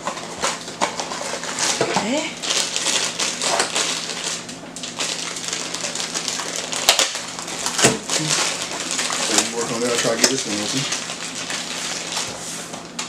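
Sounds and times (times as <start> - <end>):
foil bag crinkling and tearing: 0.0 - 13.0.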